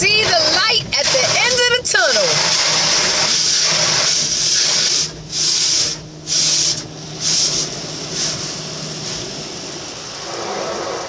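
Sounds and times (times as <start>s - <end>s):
car wash hissing rush: 0.0s - 11.0s.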